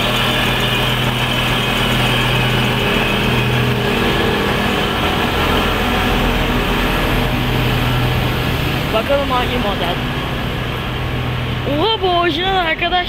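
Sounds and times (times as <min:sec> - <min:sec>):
train engine idling: 0:00.0 - 0:13.0.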